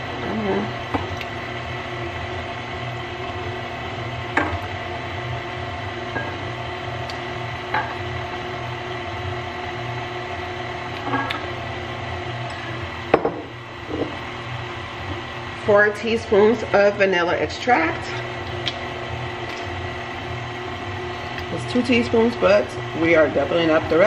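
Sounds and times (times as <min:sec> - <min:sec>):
stand mixer motor humming: 0:00.0 - 0:24.0.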